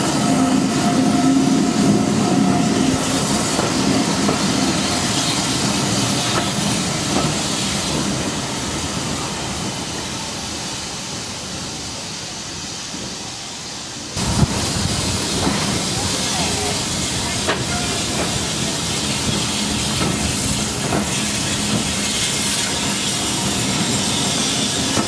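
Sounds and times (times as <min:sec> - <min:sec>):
train wheels clicking on rails: 0:00.0 - 0:10.1, 0:12.0 - 0:25.0
loud hiss: 0:00.0 - 0:25.0.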